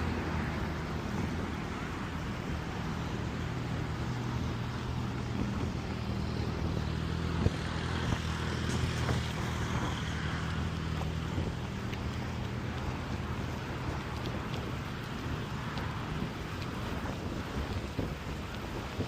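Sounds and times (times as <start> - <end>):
low engine hum: 0.0 - 19.0
wind rushing over microphone: 0.0 - 19.0.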